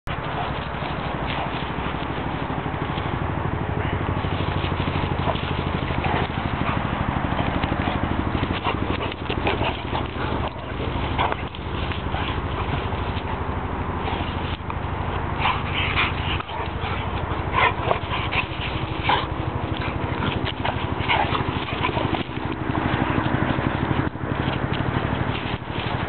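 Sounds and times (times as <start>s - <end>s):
steady low hum: 0.0s - 26.0s
dogs scuffling and playing: 0.1s - 26.0s.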